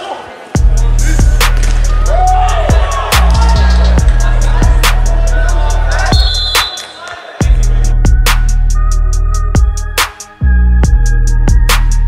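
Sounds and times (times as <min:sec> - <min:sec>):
music with heavy bass beat: 0:00.6 - 0:06.7, 0:07.4 - 0:12.0.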